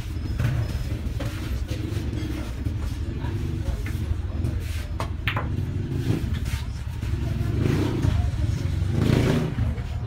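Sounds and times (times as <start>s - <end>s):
engine rumbling: 0.0s - 10.0s.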